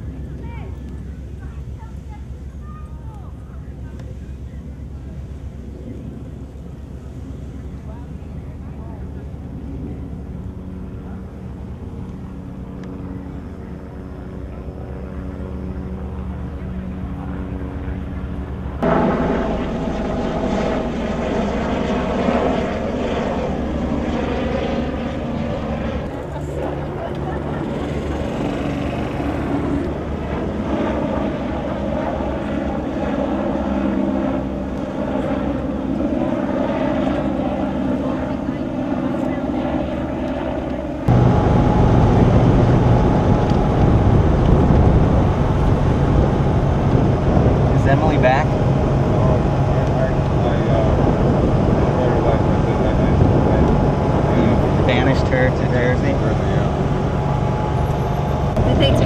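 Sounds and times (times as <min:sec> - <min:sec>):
steady low engine drone: 0:00.0 - 0:59.0.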